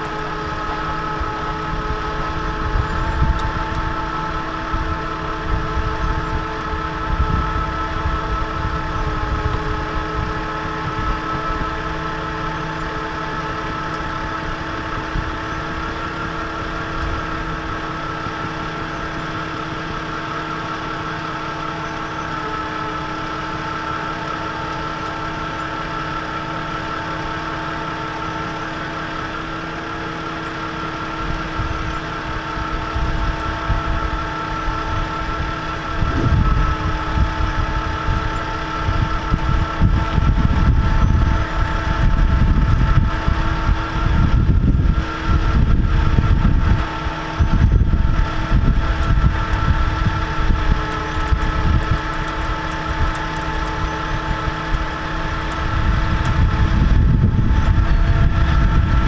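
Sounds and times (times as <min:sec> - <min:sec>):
steady whine: 0:00.0 - 0:59.0
truck engine idling: 0:00.0 - 0:59.0.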